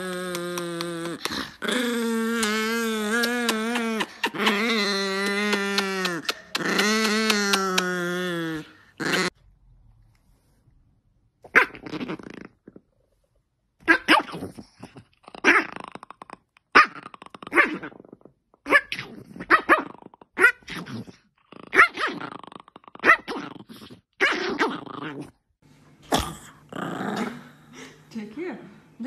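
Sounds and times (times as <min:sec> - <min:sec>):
dog growling and barking: 0:00.0 - 0:09.4, 0:11.4 - 0:13.0, 0:13.8 - 0:27.7.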